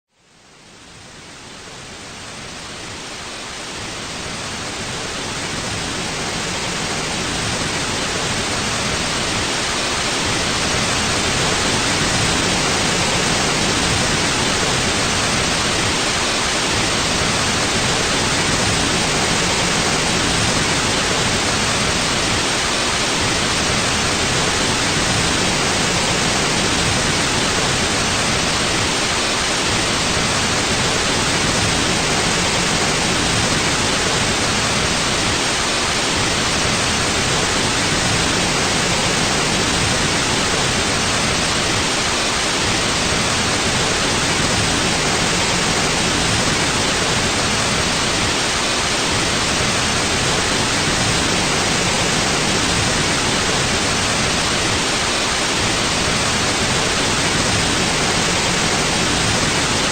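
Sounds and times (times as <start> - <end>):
white noise hiss: 0.1 - 59.9.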